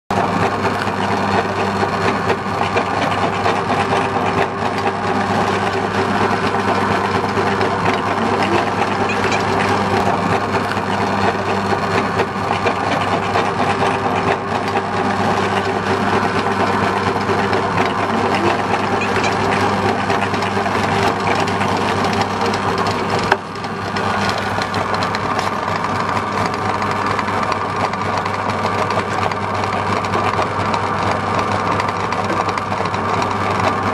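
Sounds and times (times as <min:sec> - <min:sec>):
meat grinder motor hum: 0:00.1 - 0:33.9.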